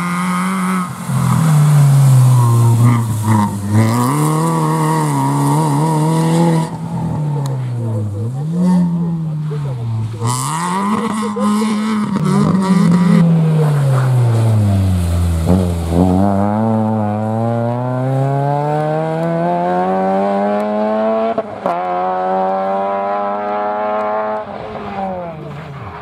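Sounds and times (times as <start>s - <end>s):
rally car accelerating: 0.0s - 26.0s
rally car engine: 0.0s - 26.0s.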